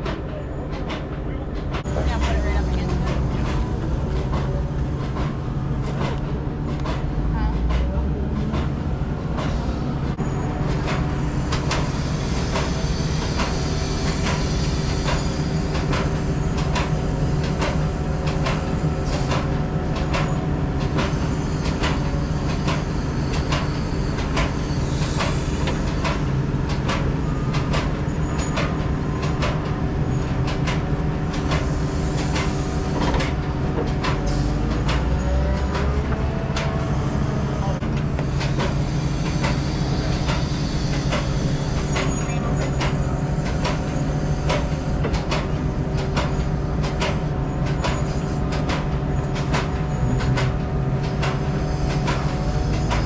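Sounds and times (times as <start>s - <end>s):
truck engine and road drone: 0.0s - 53.0s
vehicle rattles and clanks: 0.0s - 53.0s.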